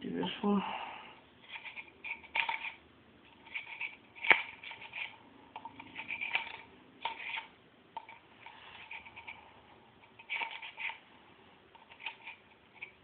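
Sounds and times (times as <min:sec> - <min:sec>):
light clicks and scrapes of handling: 0:01.4 - 0:13.0.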